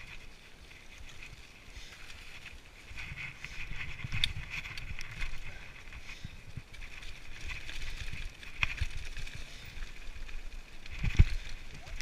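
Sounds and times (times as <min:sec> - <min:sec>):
bike rattling over bumps: 0:00.0 - 0:12.0
bike tyres rumbling on dirt: 0:00.0 - 0:12.0.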